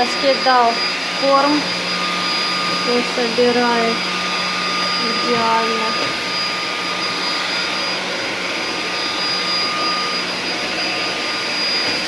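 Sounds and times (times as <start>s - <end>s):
stick vacuum running: 0.0s - 12.0s.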